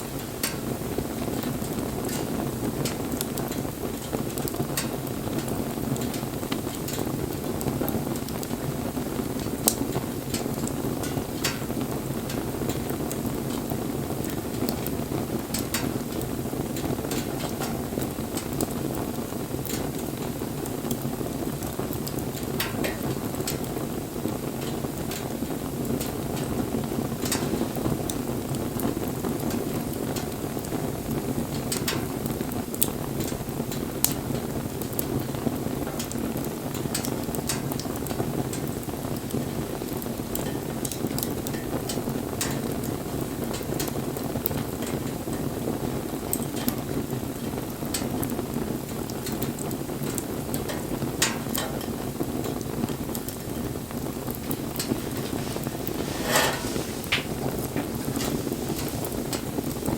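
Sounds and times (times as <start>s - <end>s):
bonfire flame rushing: 0.0s - 59.9s
wood crackling and popping: 0.0s - 59.9s.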